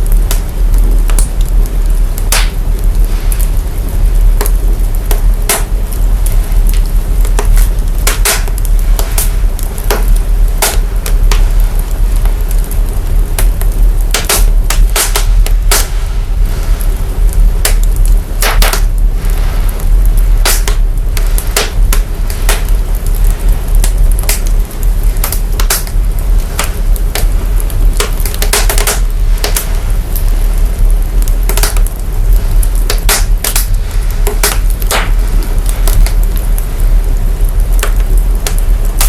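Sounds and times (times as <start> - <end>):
deep sub-bass rumble: 0.0 - 39.0
wood fire crackling: 0.0 - 39.0.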